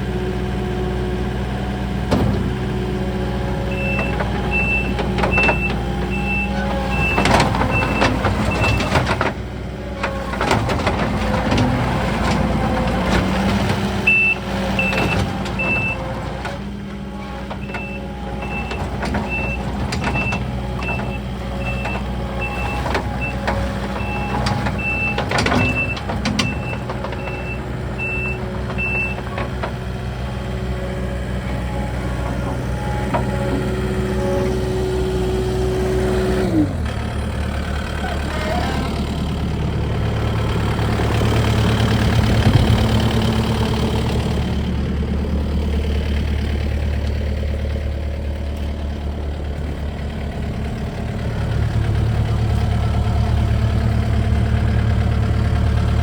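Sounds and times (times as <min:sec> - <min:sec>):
diesel engine working: 0:00.0 - 0:56.0.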